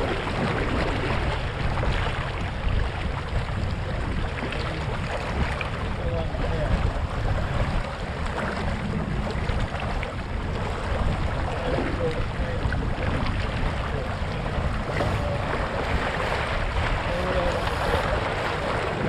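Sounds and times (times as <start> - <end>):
water slapping along hull: 0.0 - 19.0
wind buffeting microphone: 0.0 - 19.0.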